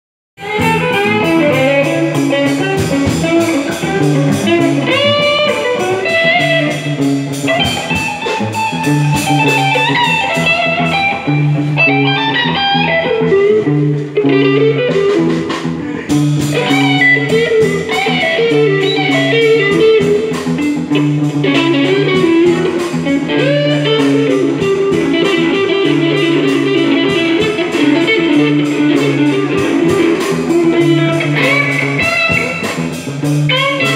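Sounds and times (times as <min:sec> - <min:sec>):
lead electric guitar: 0:00.4 - 0:33.9
low guitar accompaniment: 0:00.4 - 0:33.9.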